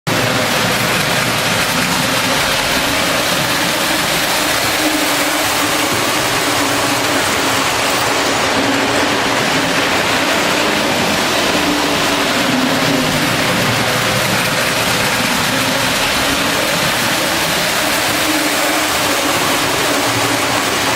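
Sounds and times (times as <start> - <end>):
wheels rumbling on rails: 0.1 - 20.9.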